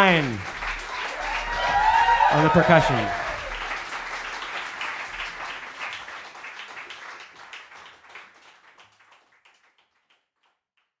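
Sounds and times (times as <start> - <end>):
audience applause: 0.0 - 10.1.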